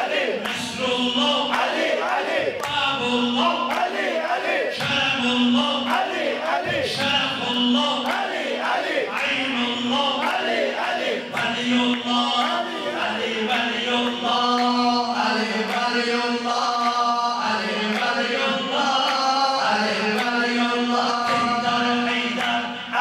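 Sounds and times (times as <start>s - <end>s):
man chanting into a microphone: 0.0s - 23.0s
men singing along: 0.0s - 23.0s
rhythmic hand strikes: 0.0s - 23.0s.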